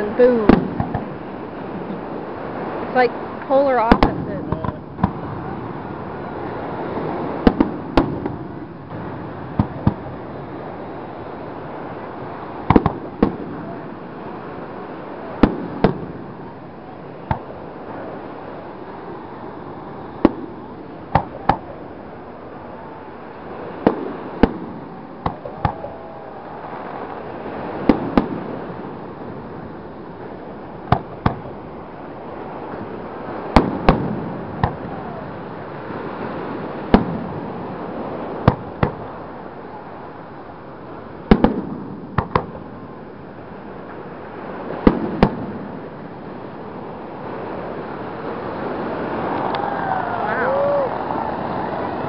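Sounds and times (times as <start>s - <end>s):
fireworks bursting: 0.0s - 40.1s, 40.8s - 52.0s.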